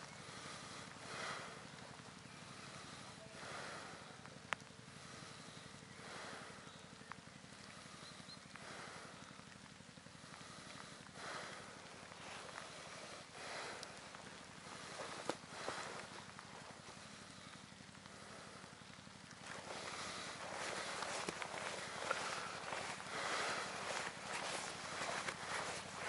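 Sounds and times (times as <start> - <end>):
heavy breathing: 0.0 - 6.8, 7.5 - 26.0
atv engine idling: 0.0 - 26.0.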